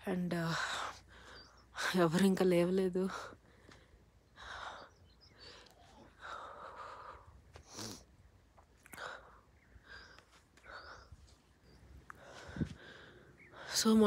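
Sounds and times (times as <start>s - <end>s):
faint breathing: 0.5s - 1.9s, 3.1s - 8.2s, 8.8s - 14.0s.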